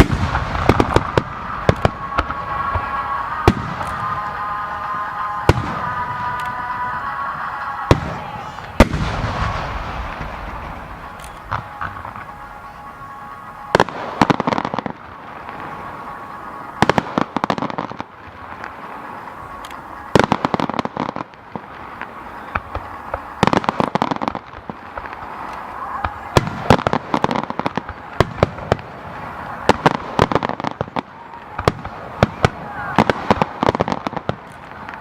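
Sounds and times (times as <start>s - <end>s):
firework shell bursts: 0.0s - 30.8s
crackling firework pops: 0.0s - 35.0s.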